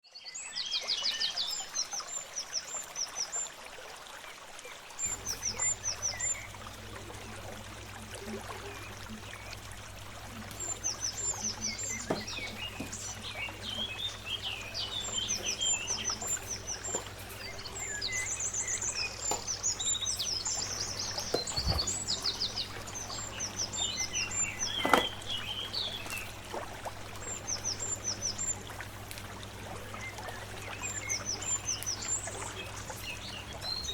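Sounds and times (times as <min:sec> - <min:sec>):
birds chirping: 0:04.3 - 0:33.9
low steady hum: 0:05.0 - 0:33.9.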